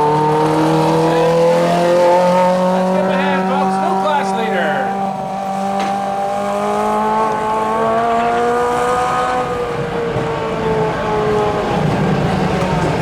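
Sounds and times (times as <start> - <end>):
lawn tractor engine running hard: 0.0 - 13.0.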